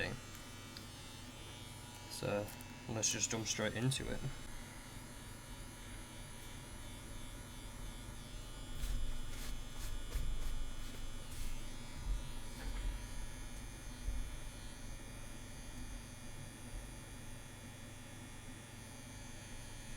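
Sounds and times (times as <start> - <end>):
tattoo machine motor buzz: 0.0 - 19.9.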